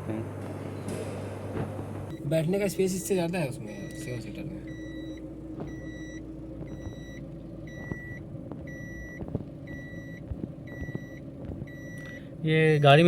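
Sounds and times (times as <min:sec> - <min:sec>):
low steady hum: 0:00.0 - 0:13.0
vehicle warning chime beeping: 0:02.1 - 0:13.0.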